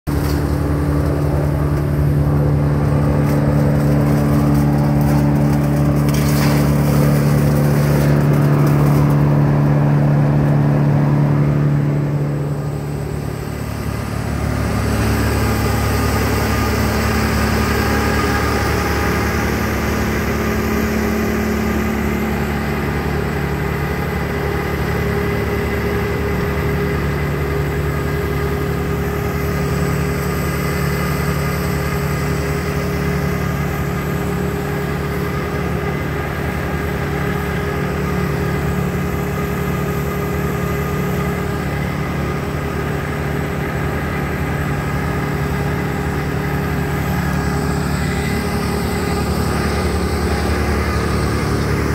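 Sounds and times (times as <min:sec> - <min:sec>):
brush chipper engine running: 0:00.1 - 0:51.9.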